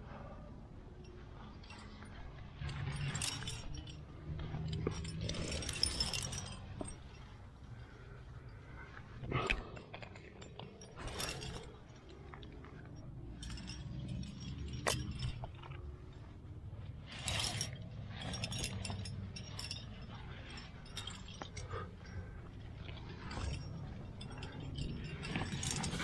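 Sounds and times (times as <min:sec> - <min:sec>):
metal carabiners clinking: 0:00.0 - 0:26.0.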